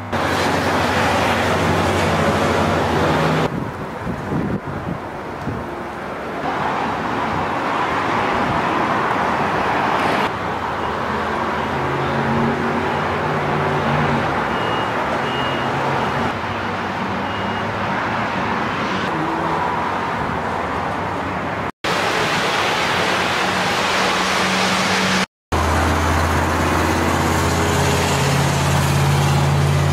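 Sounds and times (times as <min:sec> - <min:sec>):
highway traffic noise: 0:00.0 - 0:29.9.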